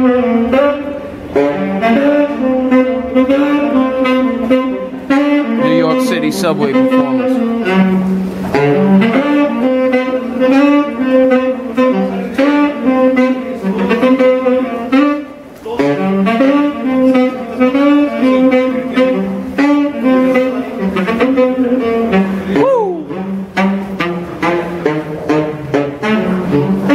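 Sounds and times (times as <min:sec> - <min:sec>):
tenor saxophone jazz solo: 0:00.0 - 0:26.9.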